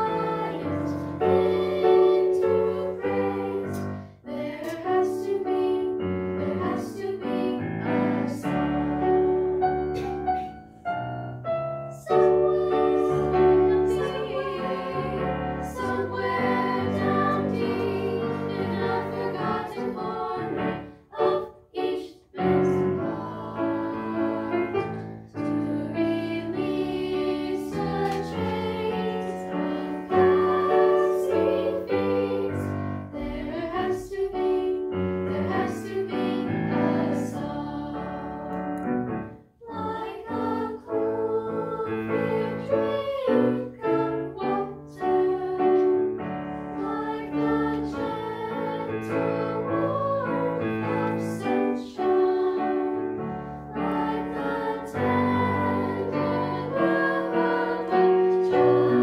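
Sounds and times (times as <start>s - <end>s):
girls singing in harmony: 0.0s - 11.0s, 11.8s - 59.0s.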